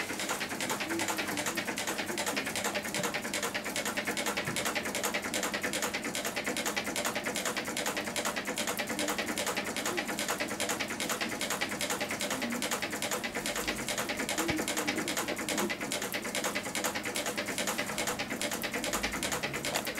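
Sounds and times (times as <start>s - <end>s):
stirling engine rapid clicking: 0.0s - 19.9s.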